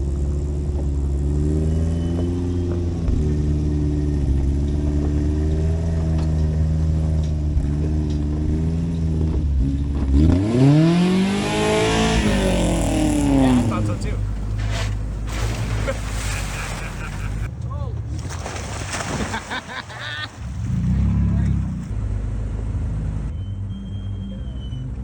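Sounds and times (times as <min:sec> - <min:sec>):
engine running and revving: 0:00.0 - 0:18.5, 0:20.4 - 0:25.0.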